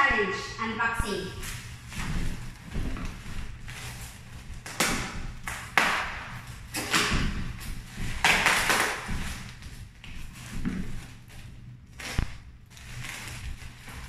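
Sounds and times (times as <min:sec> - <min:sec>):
plastic wrapping crinkling: 0:01.3 - 0:14.0.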